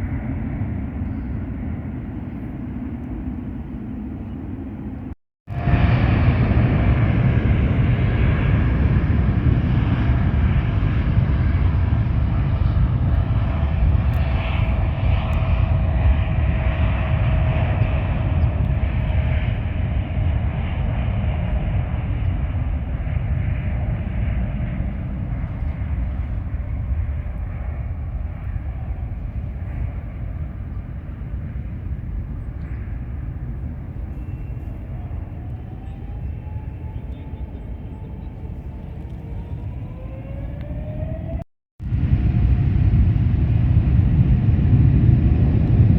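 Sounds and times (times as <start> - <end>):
faint engine whine: 0.0 - 45.9
jet engines roaring: 0.0 - 45.9.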